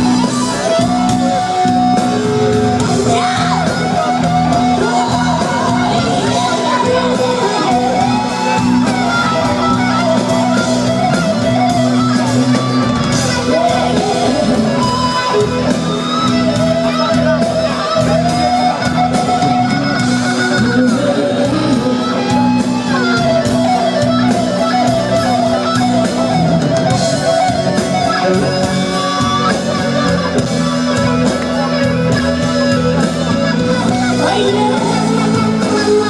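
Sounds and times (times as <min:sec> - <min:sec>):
electric guitar lead: 0:00.0 - 0:36.0.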